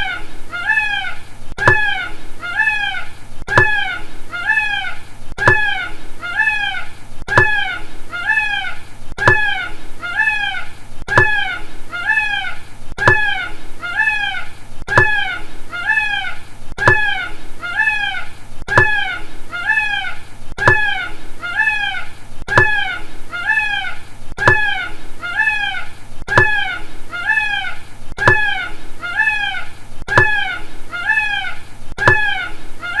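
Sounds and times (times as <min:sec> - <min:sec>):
peacock calling: 0:00.0 - 0:33.0.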